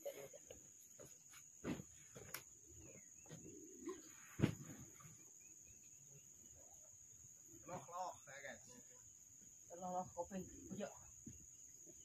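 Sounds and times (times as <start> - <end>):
insect drone: 0.0 - 12.0.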